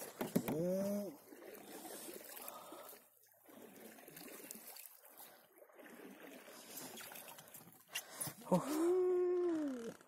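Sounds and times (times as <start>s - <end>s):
faint water trickling and lapping: 0.0s - 10.0s.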